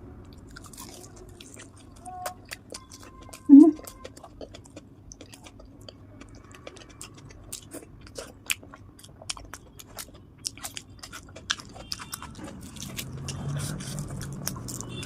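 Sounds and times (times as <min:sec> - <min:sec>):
person chewing food: 0:00.3 - 0:15.0.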